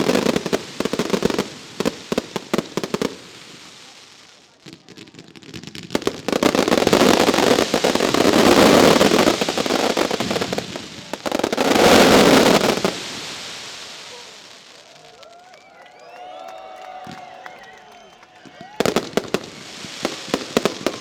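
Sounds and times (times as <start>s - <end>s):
fireworks bangs and crackle: 0.0s - 15.4s, 18.4s - 21.0s.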